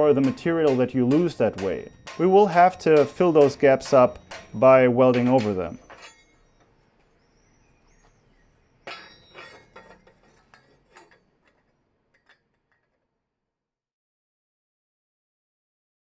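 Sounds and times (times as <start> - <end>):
steel pieces clinking: 0.0 - 13.0.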